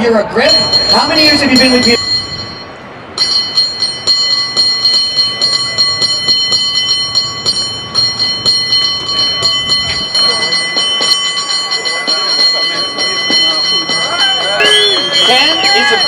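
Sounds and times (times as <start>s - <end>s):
cable car bell ringing: 0.3s - 16.0s.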